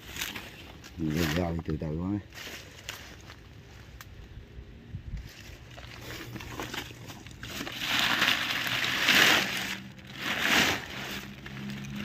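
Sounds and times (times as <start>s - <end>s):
dry leaves rustling and crackling: 0.0s - 4.1s, 5.1s - 12.0s.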